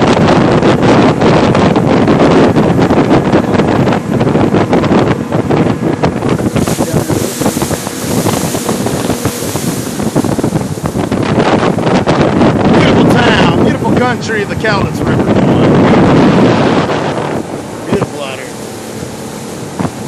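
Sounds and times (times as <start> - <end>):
boat and water rushing: 0.0 - 20.0
wind buffeting microphone: 0.0 - 20.0.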